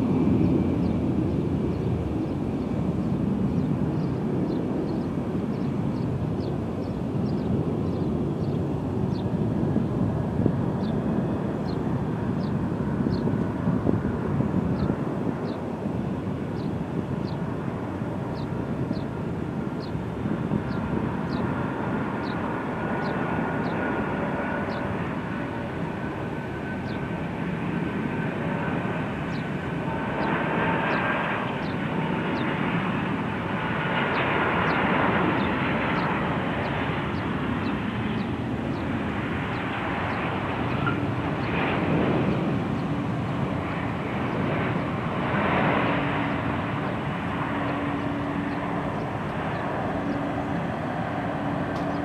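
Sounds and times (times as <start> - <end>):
jet airliner landing: 0.0 - 52.0.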